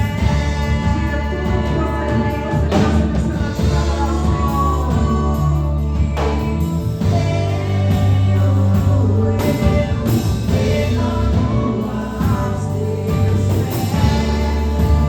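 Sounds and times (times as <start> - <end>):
band accompaniment: 0.0 - 15.0
steady bass line: 0.0 - 15.0
worship song singing: 0.0 - 15.0.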